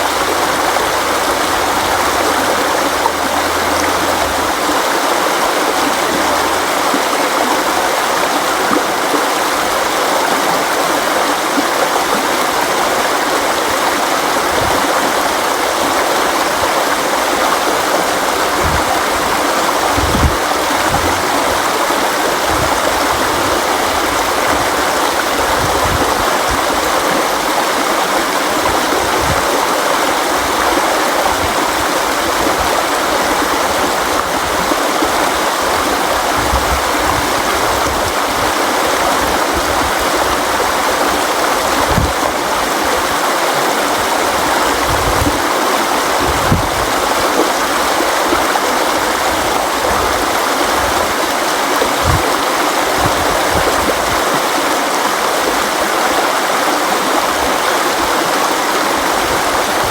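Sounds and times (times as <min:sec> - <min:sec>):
low gurgling thuds: 0:00.0 - 0:07.4, 0:10.6 - 0:43.3, 0:43.9 - 0:54.7
river water rushing over rocks: 0:00.0 - 0:59.9.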